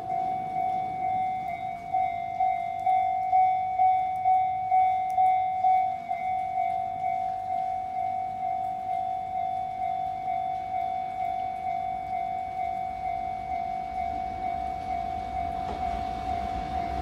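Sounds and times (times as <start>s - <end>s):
level crossing bell ringing: 0.0s - 17.0s.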